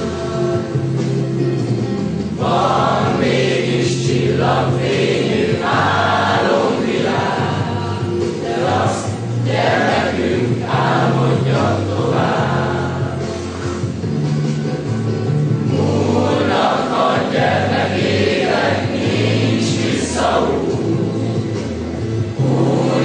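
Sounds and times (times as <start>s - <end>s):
group of people singing: 0.0s - 0.9s, 2.4s - 13.7s, 15.6s - 23.0s.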